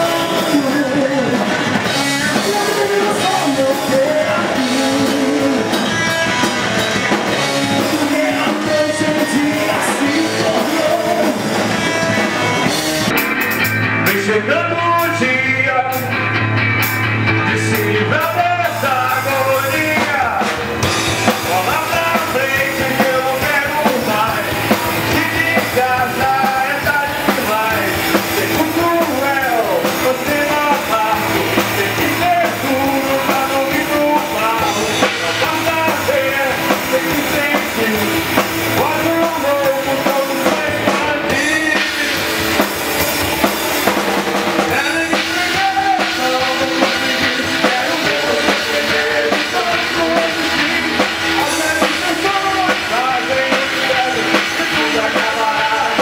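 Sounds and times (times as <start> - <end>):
man singing: 0.0 - 13.2, 13.9 - 56.0
drum kit: 0.0 - 56.0
electric guitars: 0.0 - 56.0.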